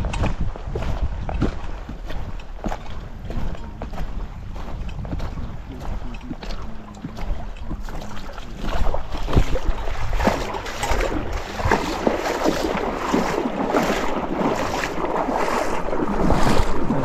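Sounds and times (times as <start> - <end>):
river water rushing and splashing: 0.0 - 17.0
wind buffeting microphone: 0.0 - 17.0.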